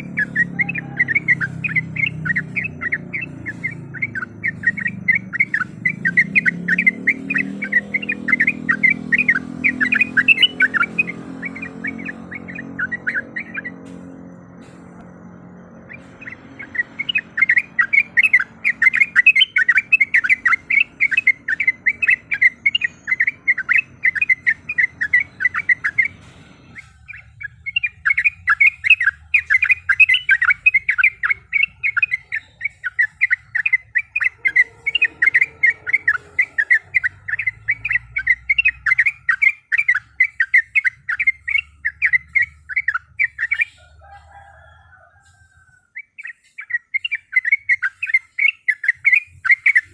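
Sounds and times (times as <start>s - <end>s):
bulbul singing rapid notes: 0.0s - 44.3s, 45.8s - 49.9s.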